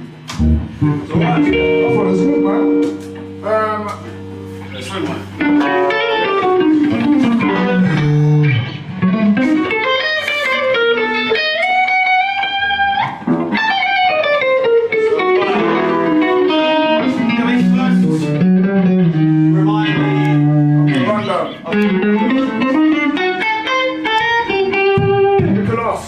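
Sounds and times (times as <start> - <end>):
bluesy electric guitar: 0.0 - 26.0.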